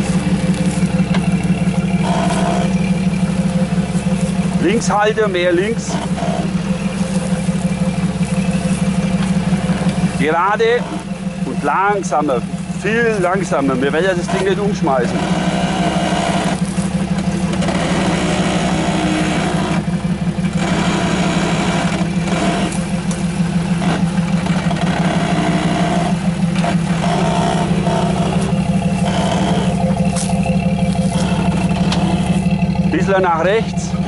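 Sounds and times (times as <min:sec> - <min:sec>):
engine running at low revs: 0:00.0 - 0:34.0.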